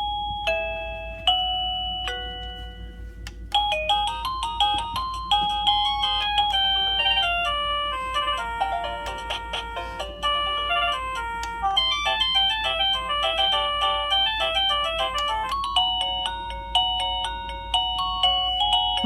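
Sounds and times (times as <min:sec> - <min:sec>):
electronic doorbell chime tunes: 0:00.0 - 0:19.0.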